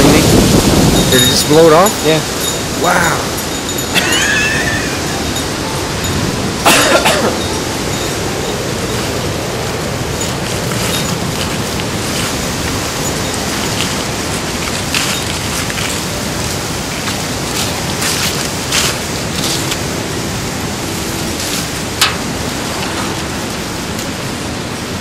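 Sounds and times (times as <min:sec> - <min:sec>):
storm wind buffeting microphone: 0:00.0 - 0:25.0.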